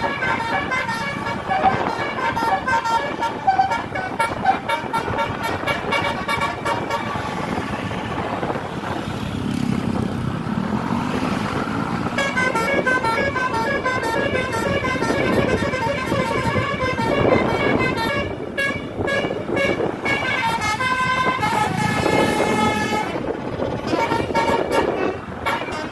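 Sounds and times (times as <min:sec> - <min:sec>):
multi-tone bus air horns melody: 0:00.0 - 0:07.5, 0:12.1 - 0:25.9
bus engine: 0:00.0 - 0:25.9
road noise: 0:00.0 - 0:25.9.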